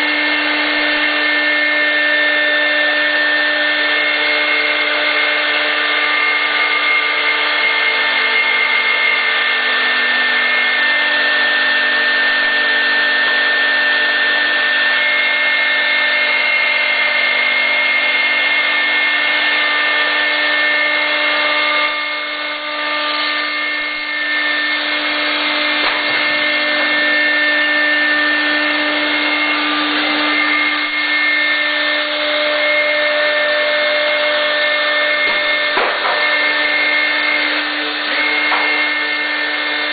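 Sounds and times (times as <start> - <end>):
bit cutting into wood: 0.0 - 39.9
router spindle whine: 0.0 - 39.9.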